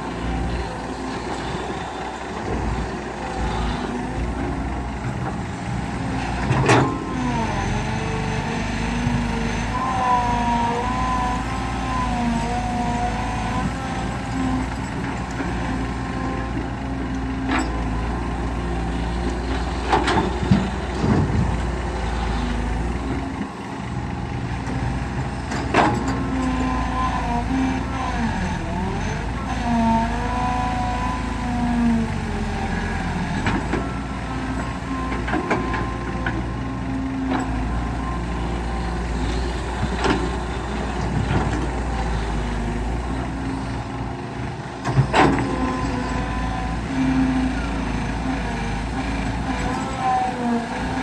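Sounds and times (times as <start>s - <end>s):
excavator diesel engine: 0.0s - 51.0s.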